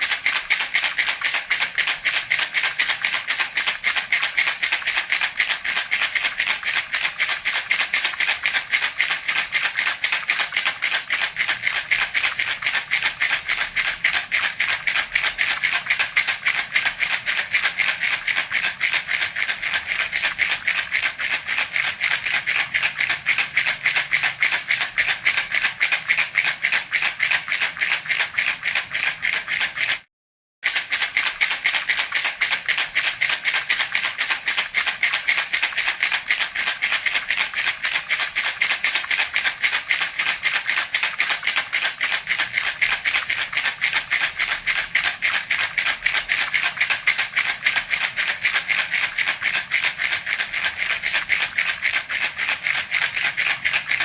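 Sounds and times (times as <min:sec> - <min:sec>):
baby's rattle shaken: 0:00.0 - 0:30.1, 0:30.7 - 0:54.0.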